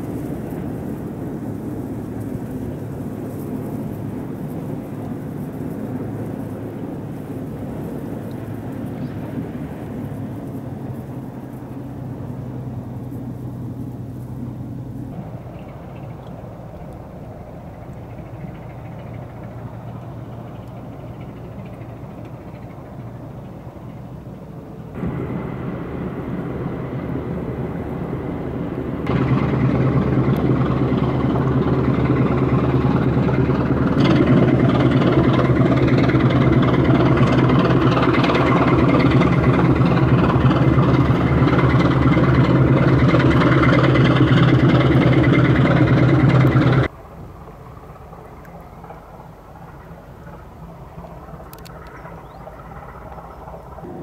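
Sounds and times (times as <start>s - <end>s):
ship diesel engine drone: 0.0s - 54.0s.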